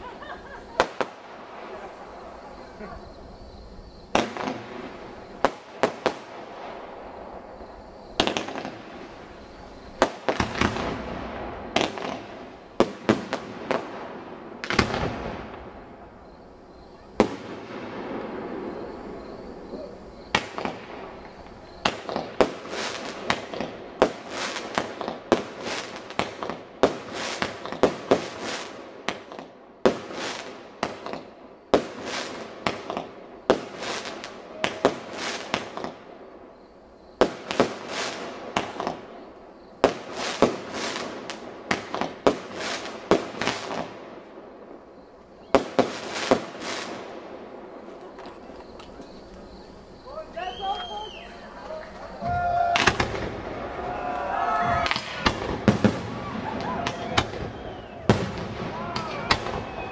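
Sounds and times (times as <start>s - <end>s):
fireworks bangs echoing: 0.0s - 16.3s, 16.9s - 36.5s, 37.2s - 59.9s.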